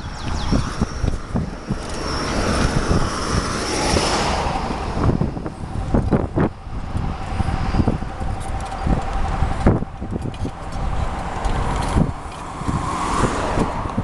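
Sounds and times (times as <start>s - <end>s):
freight train rumbling past: 0.0s - 14.0s
wind buffeting microphone: 0.0s - 14.0s.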